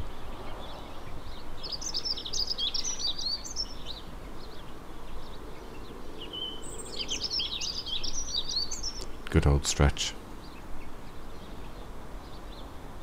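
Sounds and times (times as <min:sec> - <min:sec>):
distant road traffic hum: 0:00.0 - 0:13.0
small birds chirping: 0:00.0 - 0:13.0.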